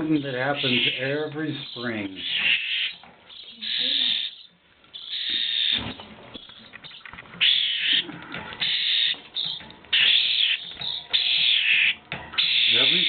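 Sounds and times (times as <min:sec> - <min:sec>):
baby birds begging calls: 0:00.0 - 0:13.0.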